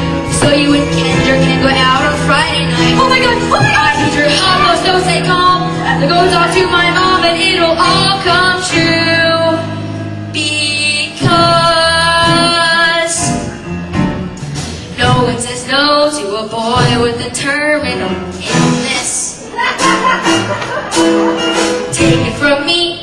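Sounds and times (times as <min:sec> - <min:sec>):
instrumental accompaniment: 0:00.0 - 0:23.0
musical theatre singing: 0:00.0 - 0:23.0.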